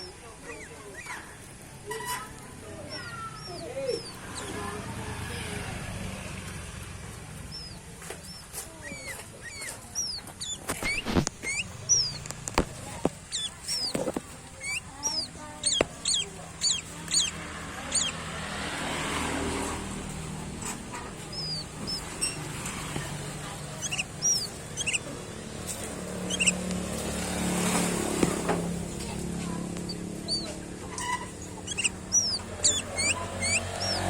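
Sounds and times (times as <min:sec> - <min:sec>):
bird chirping: 0:00.0 - 0:34.0.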